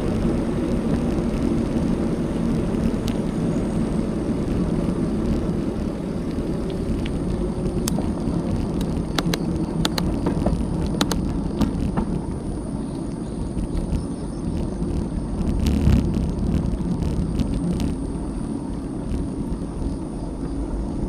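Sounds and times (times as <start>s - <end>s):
bicycle clicks and rattles: 0.0s - 12.4s, 13.0s - 20.7s
wind and tyres rumbling: 0.0s - 21.0s.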